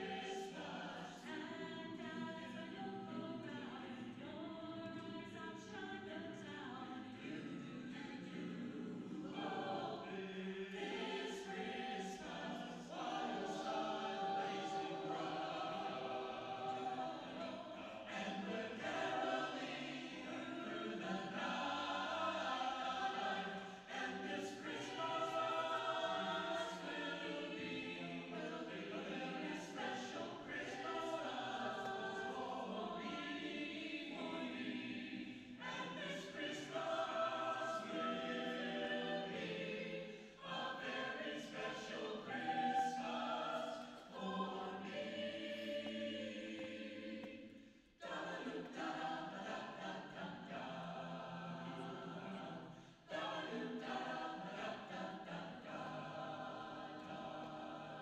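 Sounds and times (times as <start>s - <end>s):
mixed choir singing in harmony: 0.0s - 58.0s.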